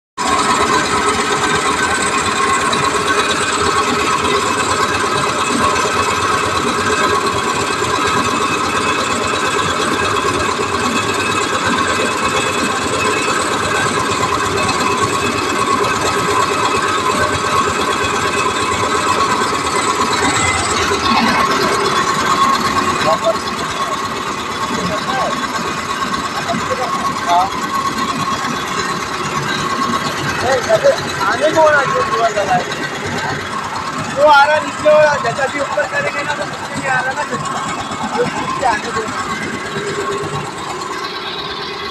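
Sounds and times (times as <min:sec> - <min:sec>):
concrete mixer whirring: 0:00.2 - 0:41.9.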